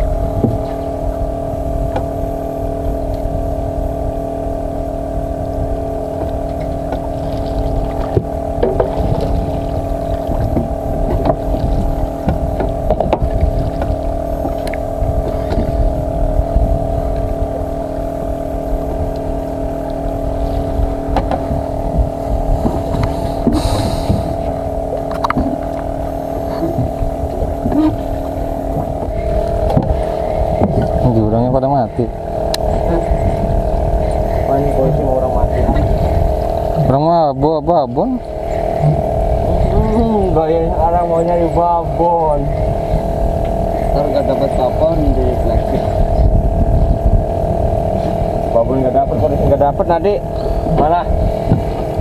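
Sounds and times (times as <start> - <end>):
boat engine running: 0.0 - 52.0
wind rumbling on microphone: 0.0 - 52.0.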